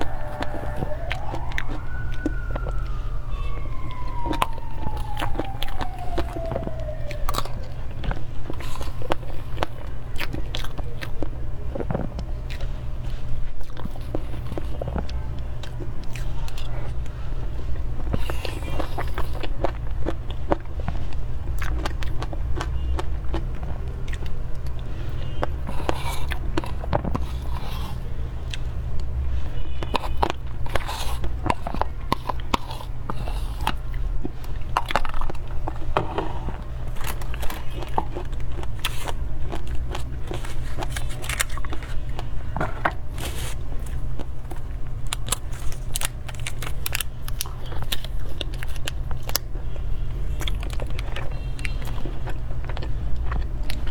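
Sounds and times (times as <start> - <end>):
person chewing wet mouth sounds: 0.0 - 53.9
steady low hum: 0.0 - 53.9.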